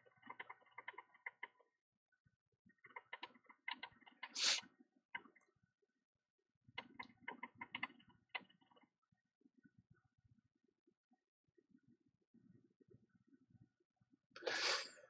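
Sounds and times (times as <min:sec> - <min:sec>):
faint clicks and taps: 0:00.0 - 0:04.4, 0:05.1 - 0:05.6, 0:06.7 - 0:14.2.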